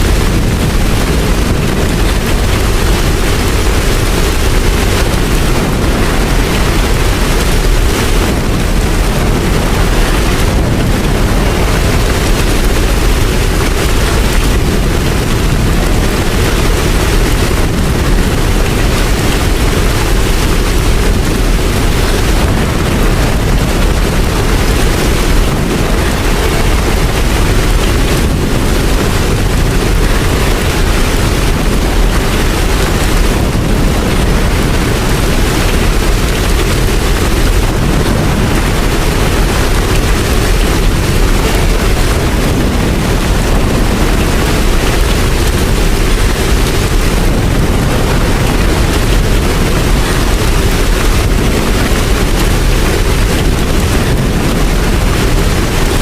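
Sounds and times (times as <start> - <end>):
deep low rumble: 0.0 - 56.0
steady rain: 0.0 - 56.0.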